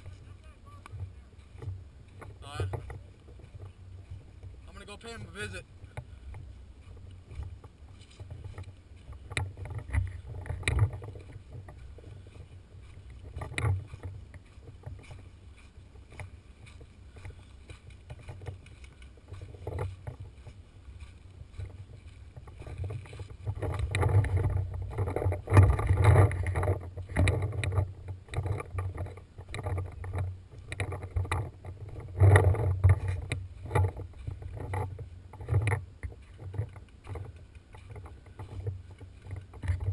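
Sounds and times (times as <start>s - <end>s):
knocks and rustles: 1.0s - 39.9s
wind on microphone: 5.6s - 39.9s.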